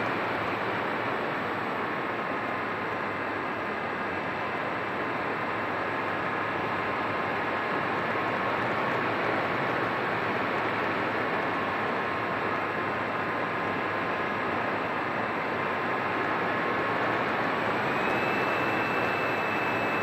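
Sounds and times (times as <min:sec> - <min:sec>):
faint motor whine: 0:00.0 - 0:20.0.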